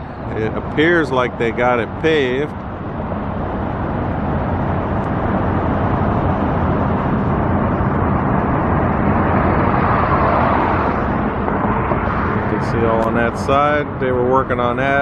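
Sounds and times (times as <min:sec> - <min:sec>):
loud outdoor rumble: 0:00.0 - 0:15.0.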